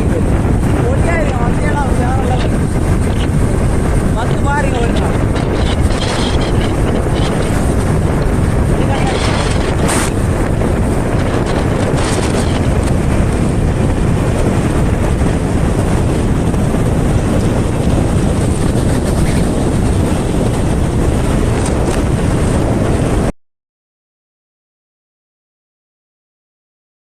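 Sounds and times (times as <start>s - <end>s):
road and engine noise: 0.0s - 23.2s
wind rushing over microphone: 0.0s - 23.3s.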